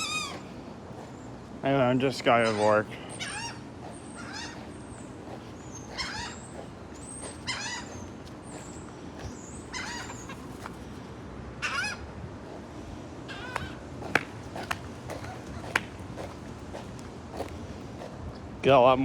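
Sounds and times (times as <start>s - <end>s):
seagulls calling: 0.0s - 18.2s.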